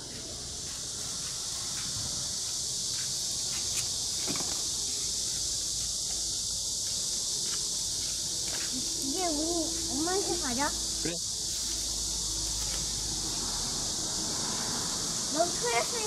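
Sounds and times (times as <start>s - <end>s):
shrill insect chorus: 0.0s - 16.0s.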